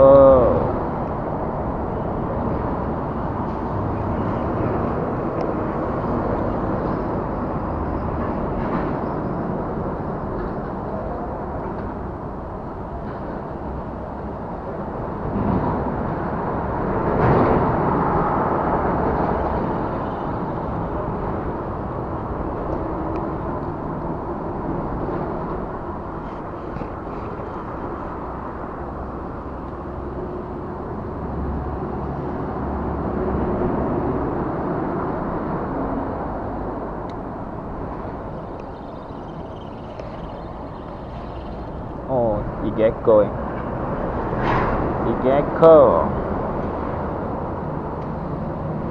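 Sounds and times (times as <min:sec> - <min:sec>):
traffic rumbling over bridge: 0:00.0 - 0:48.9.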